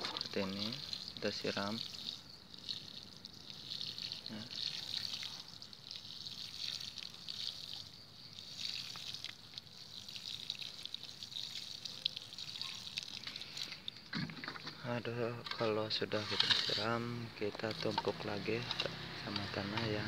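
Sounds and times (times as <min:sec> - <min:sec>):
watering can sprinkling onto soil: 0:00.0 - 0:20.0.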